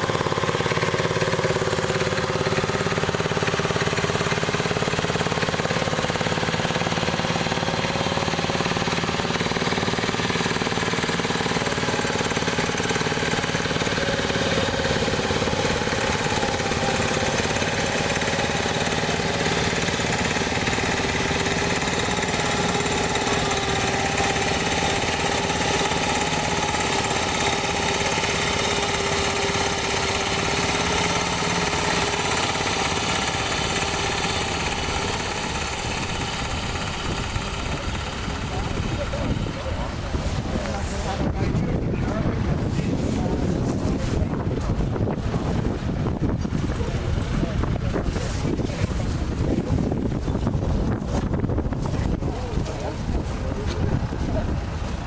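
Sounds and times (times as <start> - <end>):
small engine running steadily: 0.0 - 55.0.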